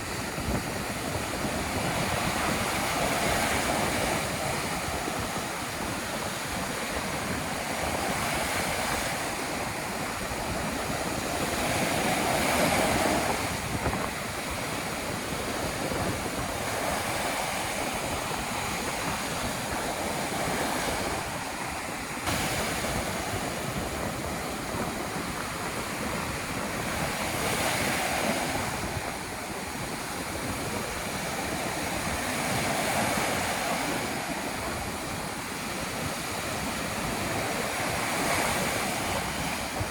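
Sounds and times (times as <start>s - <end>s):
waves breaking on beach: 0.0s - 39.9s
wind rumbling on microphone: 0.0s - 39.9s.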